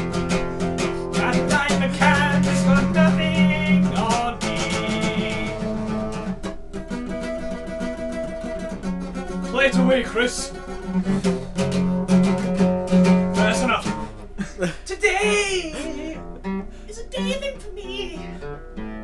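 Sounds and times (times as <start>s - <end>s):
acoustic guitar strummed fast: 0.0s - 19.0s.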